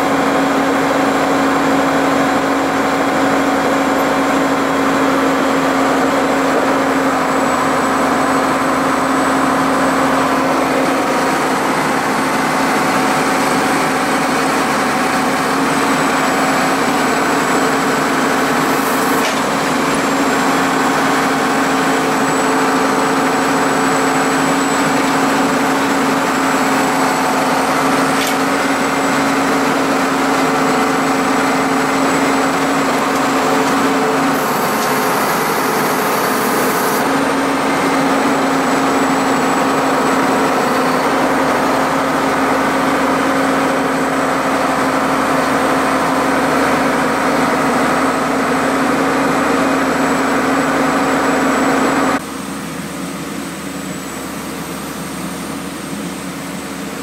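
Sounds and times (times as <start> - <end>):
drilling rig engine hum: 0.0 - 52.5.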